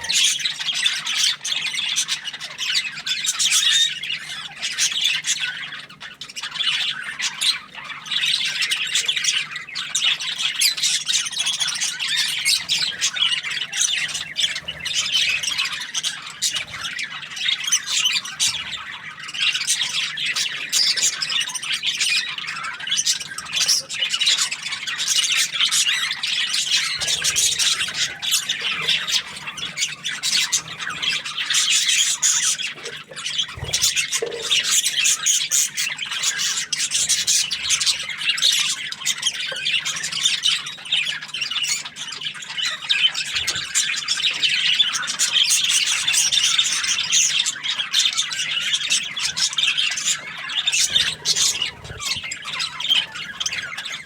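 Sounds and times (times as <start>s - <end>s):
budgies chirping and chattering: 0.0s - 54.0s.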